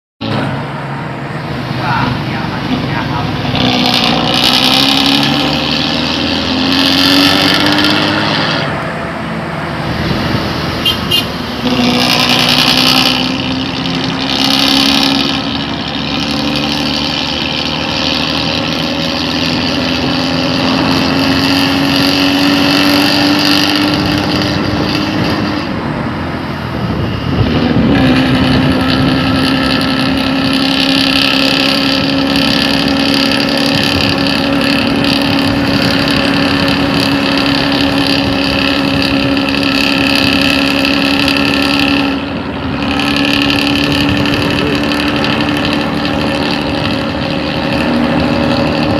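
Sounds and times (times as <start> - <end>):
truck diesel engine droning: 0.2 - 48.9.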